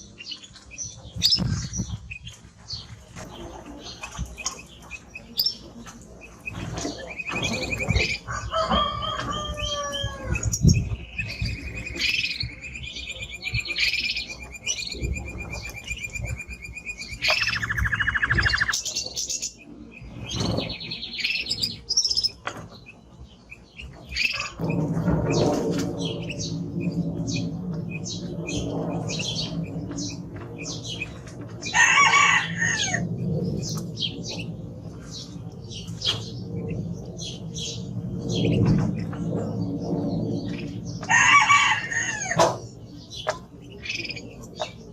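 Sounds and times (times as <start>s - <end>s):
canary singing trills: 0.0s - 41.1s
low noisy sound: 0.0s - 44.9s.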